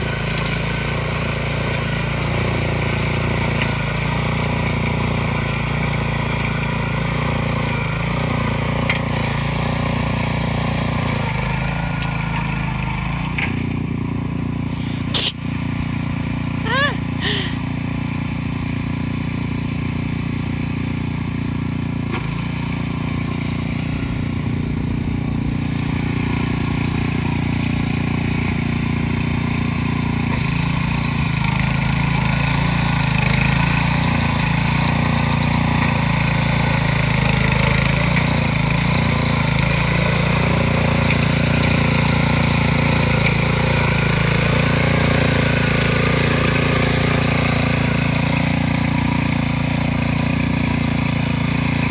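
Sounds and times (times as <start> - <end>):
small gasoline engine running: 0.0 - 51.9.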